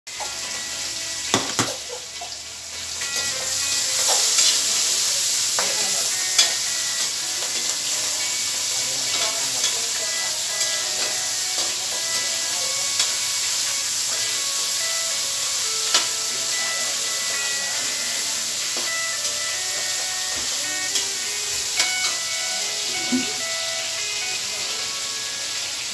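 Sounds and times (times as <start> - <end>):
meat sizzling in a wok: 0.1 - 25.9.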